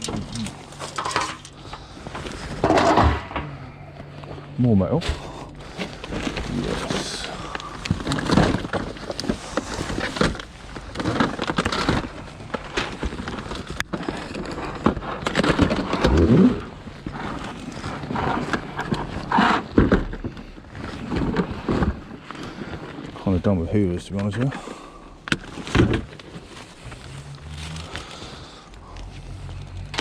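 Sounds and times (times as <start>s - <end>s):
scrap being rummaged through: 0.0s - 30.0s.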